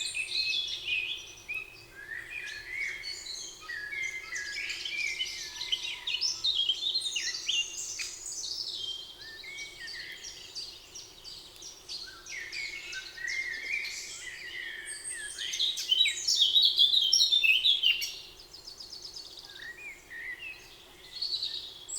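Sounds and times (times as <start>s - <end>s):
songbirds singing: 0.0s - 21.9s.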